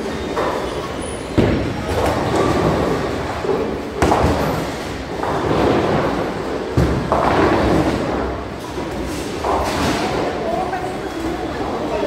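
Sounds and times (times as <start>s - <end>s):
din of other bowling lanes: 0.0s - 12.0s
bowling pins clattering: 1.4s - 11.0s.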